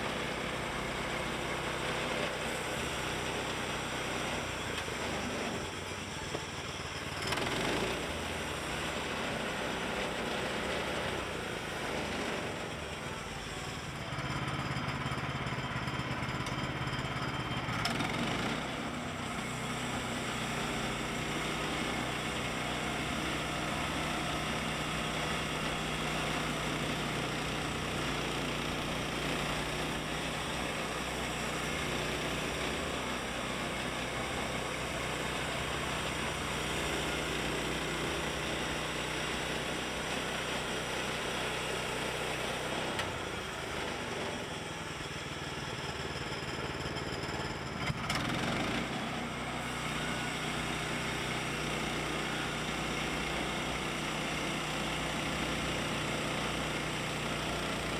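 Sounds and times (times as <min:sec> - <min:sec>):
small gasoline engine running: 0:00.0 - 0:57.9.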